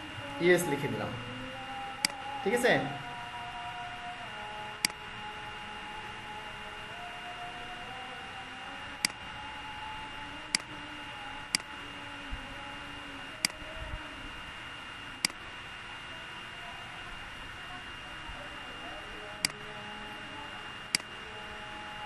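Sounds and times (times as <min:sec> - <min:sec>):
faint high whine: 0:00.0 - 0:22.0
microphone hiss: 0:00.0 - 0:22.0.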